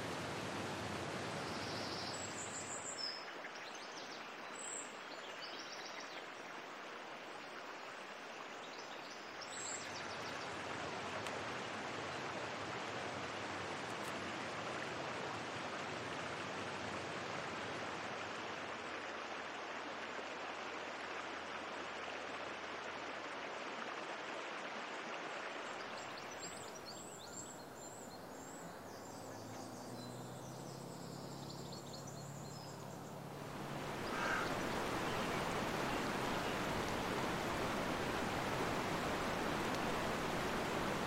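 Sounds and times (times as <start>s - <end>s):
rushing river water: 0.0s - 41.0s
stream rushing over rocks: 0.0s - 41.0s.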